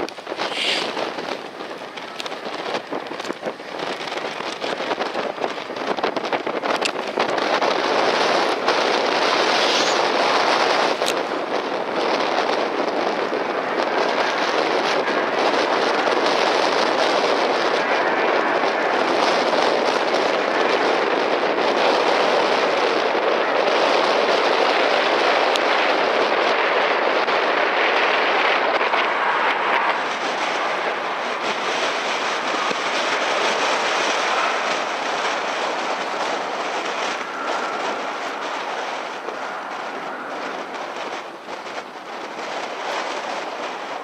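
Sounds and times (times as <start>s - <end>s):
jet engines at takeoff: 0.0s - 44.0s.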